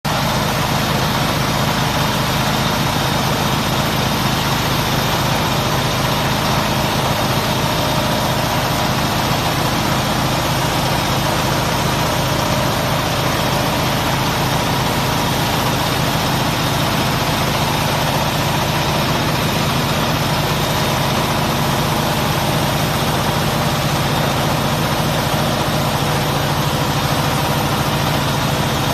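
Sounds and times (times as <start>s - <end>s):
band sawmill running: 0.1s - 28.9s.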